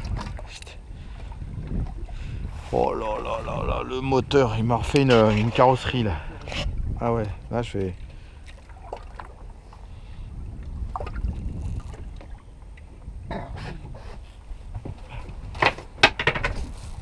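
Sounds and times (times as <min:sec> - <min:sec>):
low wind rumble: 0:00.0 - 0:17.0
water noise around boat: 0:00.0 - 0:17.0.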